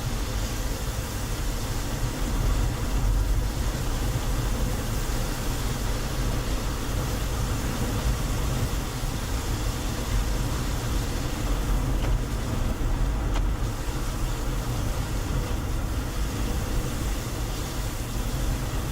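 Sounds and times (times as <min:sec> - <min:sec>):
car road and engine noise: 0:00.0 - 0:18.9.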